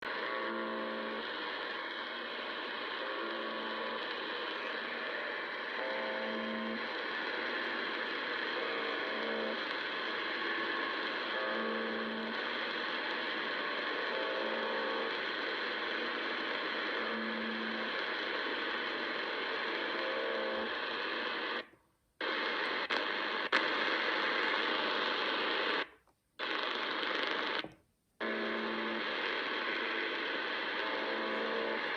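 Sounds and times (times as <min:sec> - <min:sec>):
harsh buzz tones on radio: 0:00.0 - 0:31.9
static hiss: 0:00.0 - 0:31.9.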